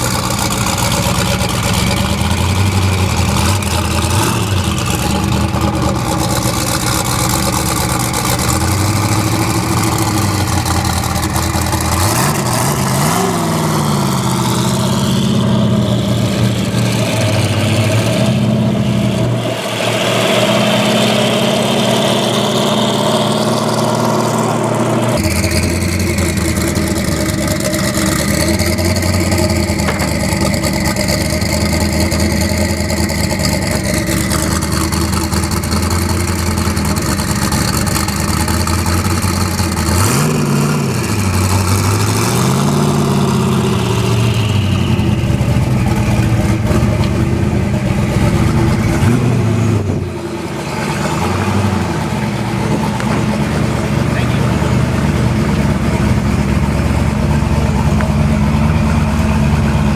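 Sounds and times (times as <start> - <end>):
car engine running at low revs: 0.0 - 59.9.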